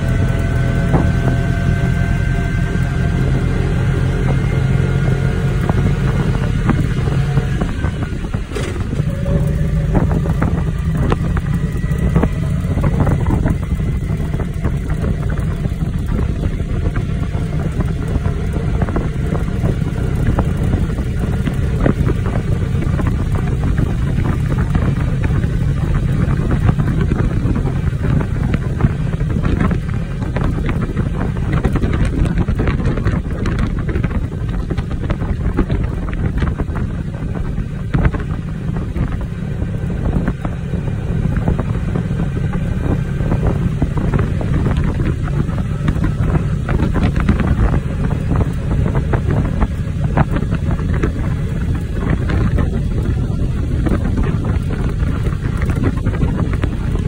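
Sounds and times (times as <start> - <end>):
vehicle engine and tyres rumbling: 0.0 - 57.0
wind on microphone: 0.0 - 57.0.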